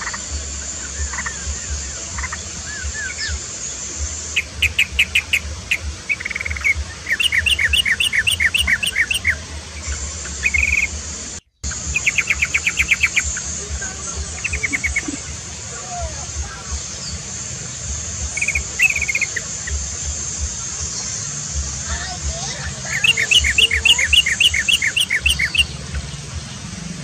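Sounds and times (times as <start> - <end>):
bulbul chattering calls and trills: 0.0 - 26.8
steady high hiss: 0.0 - 27.0.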